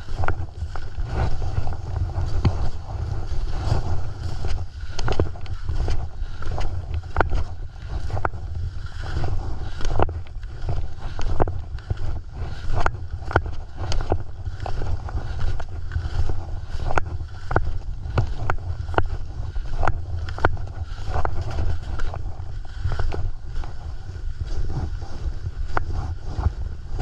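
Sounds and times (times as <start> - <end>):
ski edges scraping on snow: 0.0 - 27.0
wind buffeting microphone: 0.0 - 27.0.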